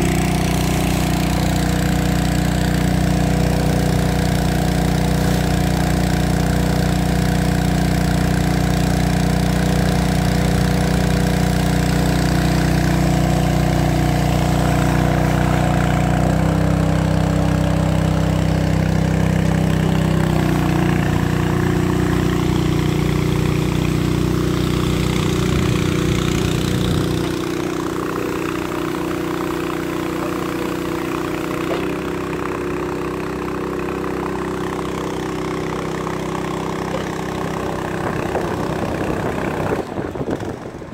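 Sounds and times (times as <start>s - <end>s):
pump engine running: 0.0s - 40.9s.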